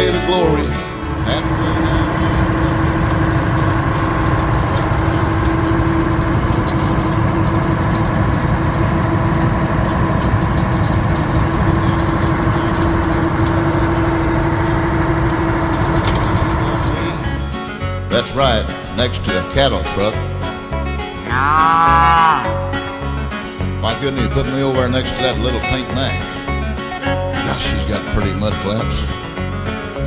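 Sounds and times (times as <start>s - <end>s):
diesel truck engine rumbling: 0.0s - 30.0s.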